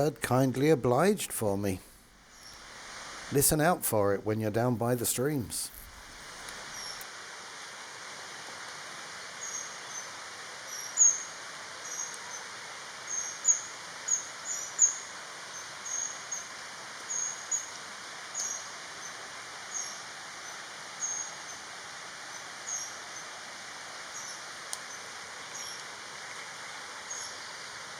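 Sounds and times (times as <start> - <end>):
steady hiss: 0.0 - 27.9.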